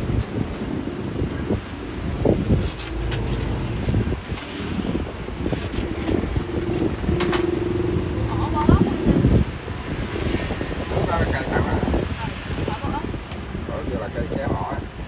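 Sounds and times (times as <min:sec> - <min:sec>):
vehicles passing rumble: 0:00.0 - 0:15.0.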